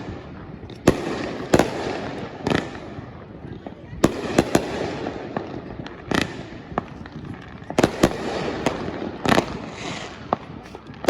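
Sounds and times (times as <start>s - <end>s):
crackling hiss: 0.0s - 11.0s
fireworks bangs: 0.0s - 11.0s.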